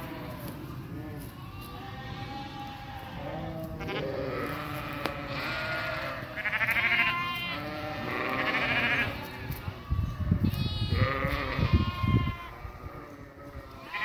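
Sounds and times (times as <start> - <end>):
sheep bleating: 0.0 - 9.6, 10.5 - 14.0.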